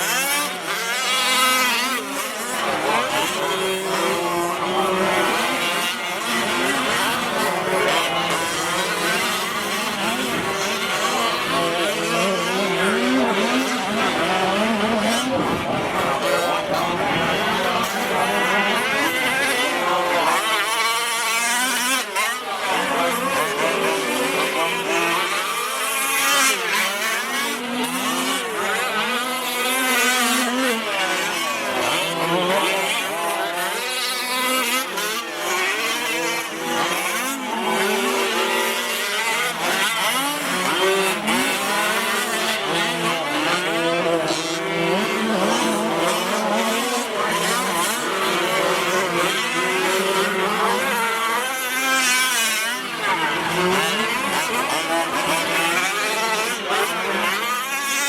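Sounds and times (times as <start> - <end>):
rc truck engines revving: 0.0 - 58.0.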